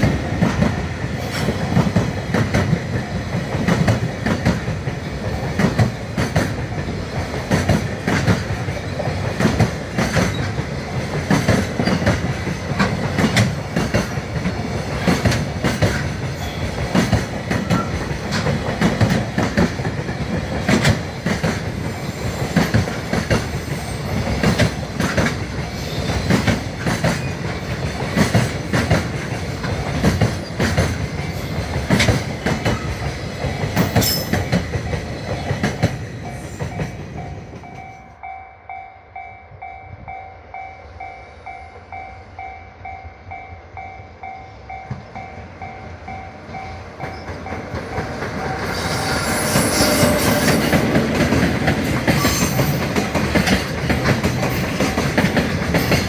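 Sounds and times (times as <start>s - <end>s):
train wheels clacking on rails: 0.0s - 38.3s, 43.8s - 56.0s.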